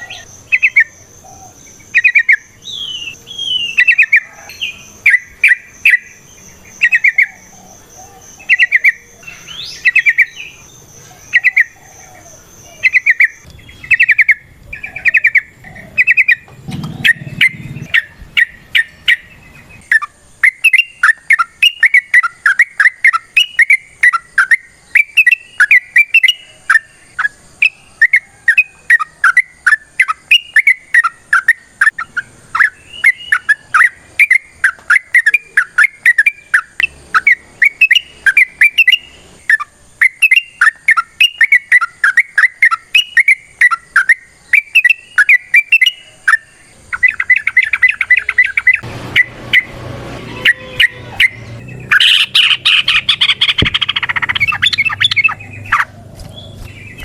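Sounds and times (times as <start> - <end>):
bird singing bubbly phrases: 0.0 - 49.7, 50.4 - 57.0.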